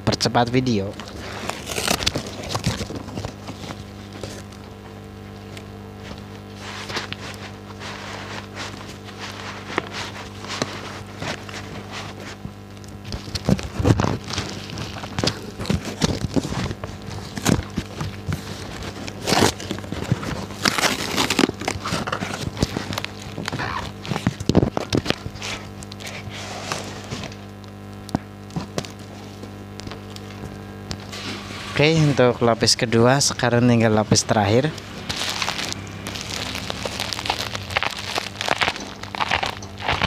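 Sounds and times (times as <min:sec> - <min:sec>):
packing material crinkling: 0:00.6 - 0:32.3, 0:33.8 - 0:40.0.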